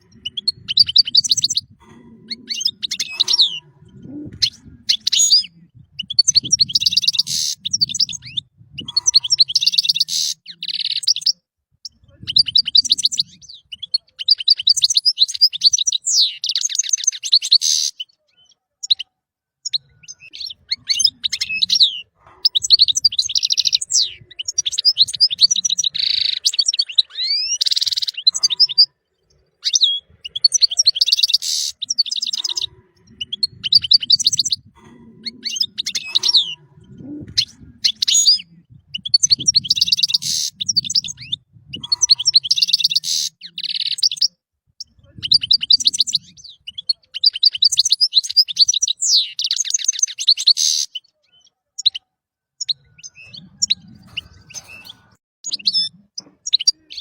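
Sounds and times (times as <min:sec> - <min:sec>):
goldfinch singing: 0:00.0 - 0:52.0.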